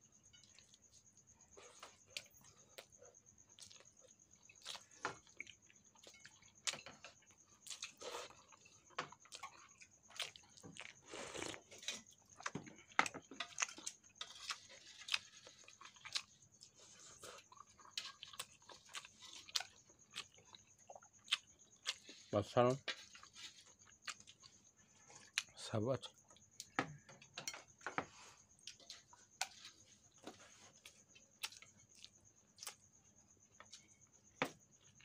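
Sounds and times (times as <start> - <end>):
people chewing: 0.4 - 35.0.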